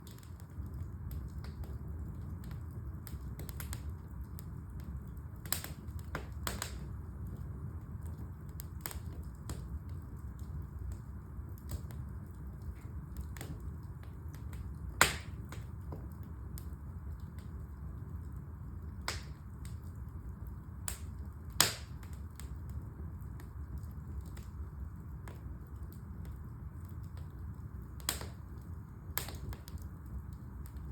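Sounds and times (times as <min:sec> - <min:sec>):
fire crackling: 0:00.0 - 0:30.9
fire snaps and pops: 0:00.0 - 0:30.9
low fire rumble: 0:00.0 - 0:30.9.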